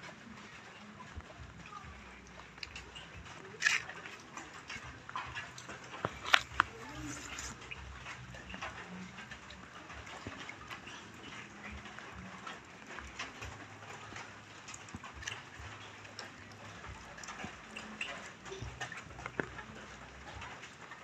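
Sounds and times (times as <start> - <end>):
drops ticking on wet surfaces: 0.0 - 21.0.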